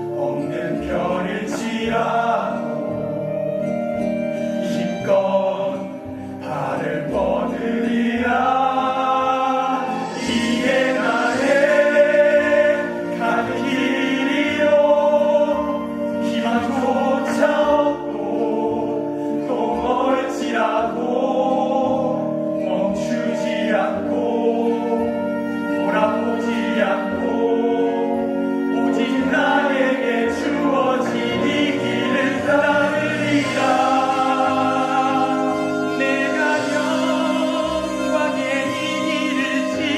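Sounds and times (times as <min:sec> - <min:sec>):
instrumental accompaniment: 0:00.0 - 0:39.9
several voices singing: 0:00.0 - 0:39.9.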